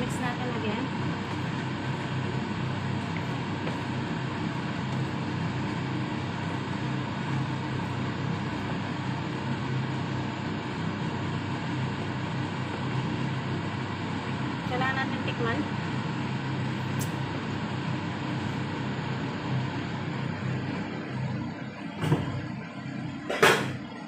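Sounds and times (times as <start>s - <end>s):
kitchen fan drone: 0.0s - 24.0s.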